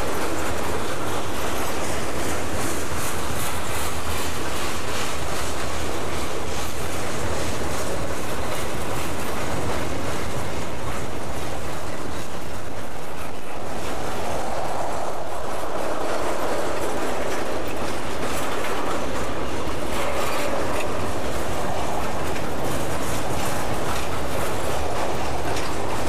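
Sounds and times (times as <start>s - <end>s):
freight train wheels clattering: 0.0s - 26.0s.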